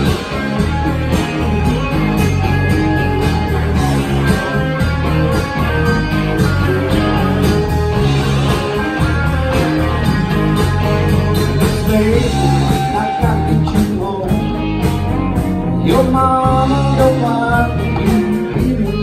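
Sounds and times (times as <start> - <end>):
drum kit steady beat: 0.0 - 19.0
electric bass: 0.0 - 19.0
electric guitars: 0.0 - 19.0.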